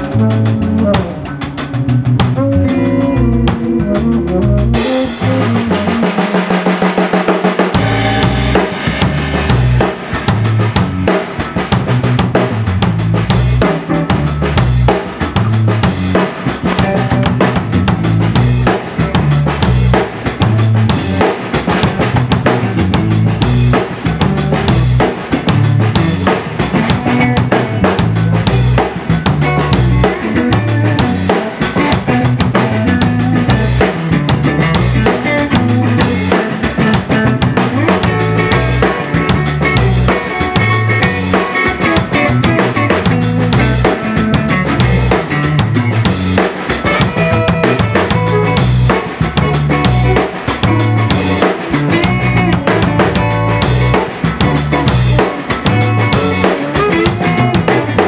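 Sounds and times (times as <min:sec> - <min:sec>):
bass notes: 0:00.0 - 0:58.0
drum kit groove: 0:00.0 - 0:58.0
latin band playing: 0:00.0 - 0:58.0.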